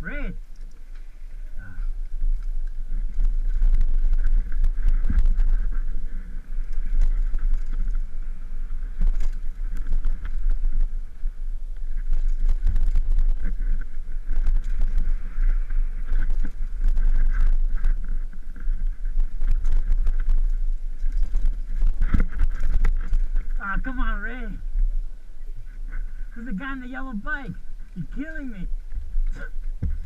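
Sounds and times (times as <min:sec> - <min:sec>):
bike rattling over bumps: 0:00.0 - 0:30.0
bike tyres on dirt: 0:00.0 - 0:30.0
wind rumble: 0:00.0 - 0:30.0.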